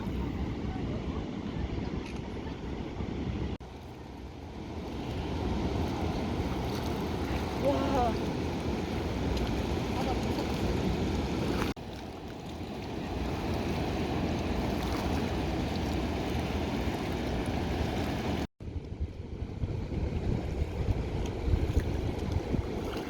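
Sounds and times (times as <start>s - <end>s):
rough sea waves surging: 0.0s - 23.0s.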